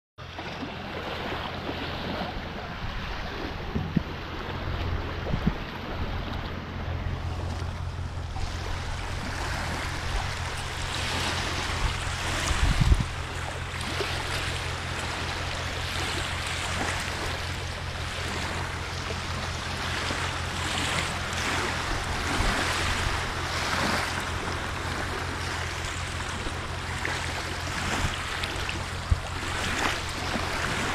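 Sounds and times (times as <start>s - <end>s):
waves lapping on shore: 0.2s - 30.9s
wind rumble on microphone: 0.2s - 30.9s.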